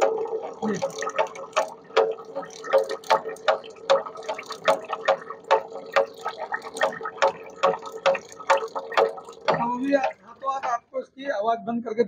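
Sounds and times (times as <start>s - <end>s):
gearing clicks: 0.0s - 10.8s.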